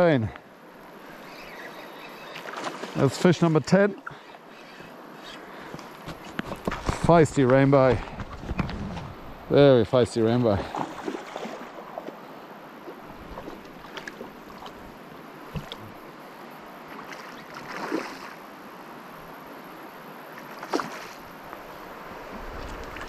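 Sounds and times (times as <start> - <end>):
river water running: 0.0 - 23.0.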